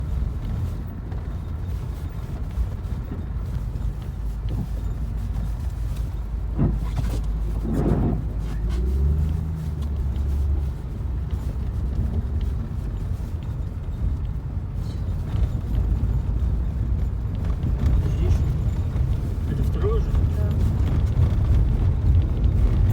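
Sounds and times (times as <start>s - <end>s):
vehicle engine low rumble: 0.0s - 22.9s.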